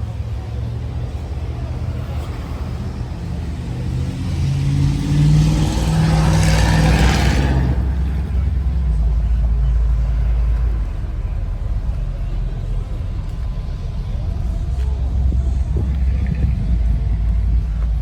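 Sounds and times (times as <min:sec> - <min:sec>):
car engine revving: 0:00.0 - 0:18.0
low engine rumble: 0:00.0 - 0:18.0.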